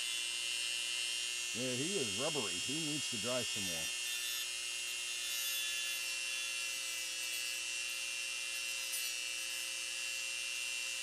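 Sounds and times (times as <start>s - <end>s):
rotary tool whining: 0.0s - 11.0s.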